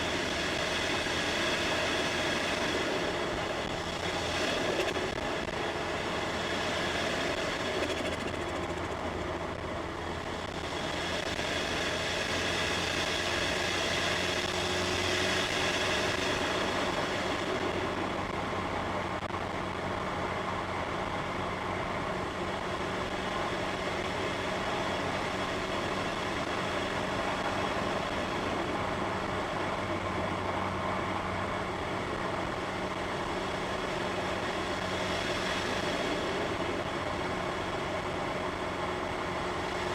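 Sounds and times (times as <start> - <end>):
car engine drone from inside: 0.0 - 39.9
road and tyre noise: 0.0 - 39.9.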